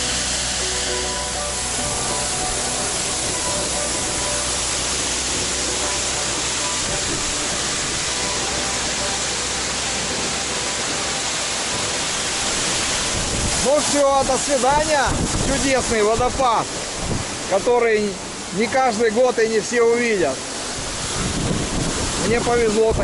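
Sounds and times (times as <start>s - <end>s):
waterfall rushing onto rocks: 0.0s - 23.0s.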